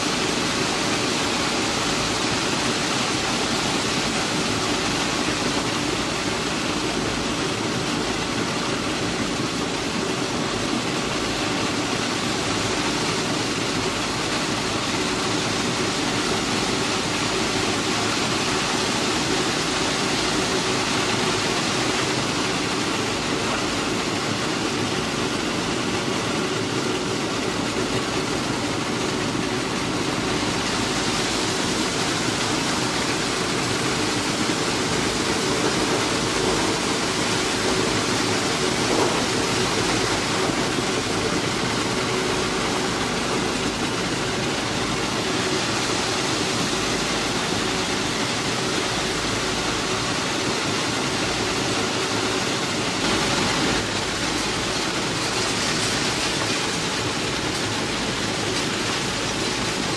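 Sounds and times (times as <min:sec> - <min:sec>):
track machine running: 0:00.0 - 0:59.9.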